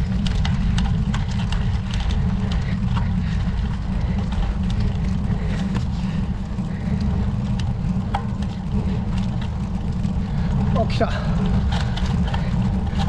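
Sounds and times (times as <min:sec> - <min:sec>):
bicycle road noise: 0:00.0 - 0:13.0
wind rumble on microphone: 0:00.0 - 0:13.0.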